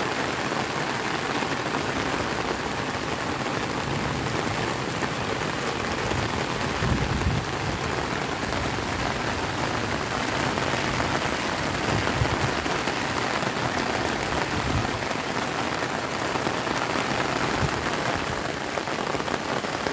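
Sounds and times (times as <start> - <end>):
rain on concrete roof: 0.0 - 19.9.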